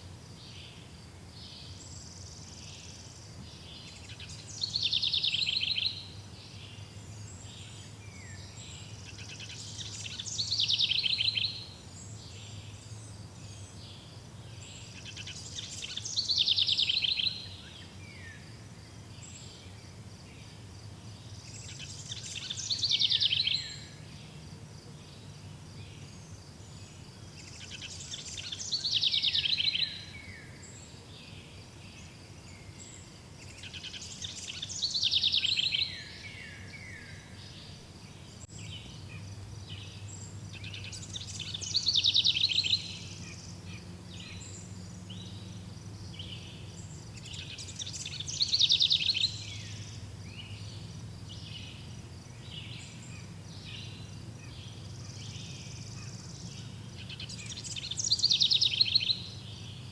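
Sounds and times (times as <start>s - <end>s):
insects chirring: 1.8s - 59.9s.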